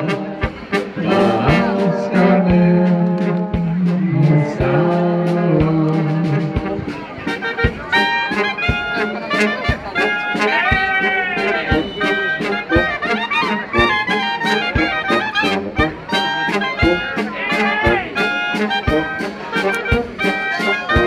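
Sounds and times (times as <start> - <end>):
low drum beat: 0.0 - 21.0
wind instruments playing melody: 0.0 - 21.0.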